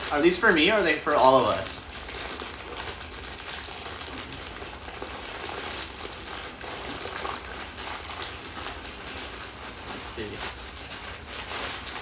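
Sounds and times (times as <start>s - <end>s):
plastic mailer crinkling: 0.0s - 12.0s
plastic tearing: 0.0s - 12.0s.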